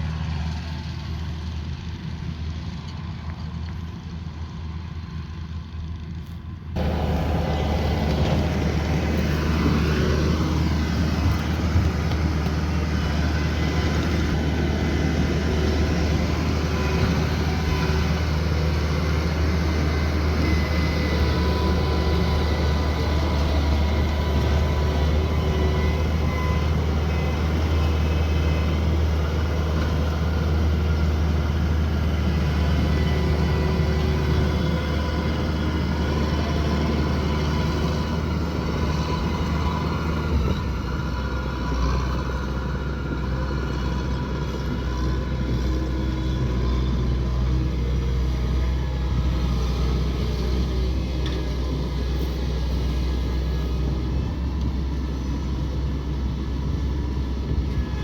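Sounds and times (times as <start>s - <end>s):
combine harvester engine drone: 0.0s - 58.0s
faint whining tones: 6.8s - 58.0s.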